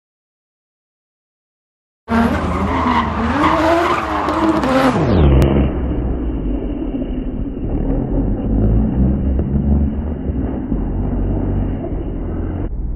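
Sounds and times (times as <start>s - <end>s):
car engine revving: 2.1s - 12.9s.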